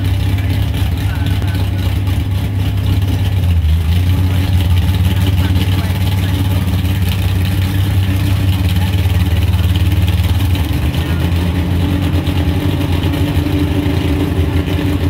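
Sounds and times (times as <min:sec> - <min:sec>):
drag car engine idling: 0:00.0 - 0:15.0.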